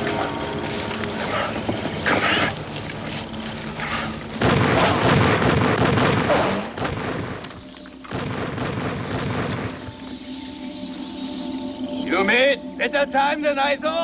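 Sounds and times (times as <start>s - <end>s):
background score music: 0.0s - 14.0s.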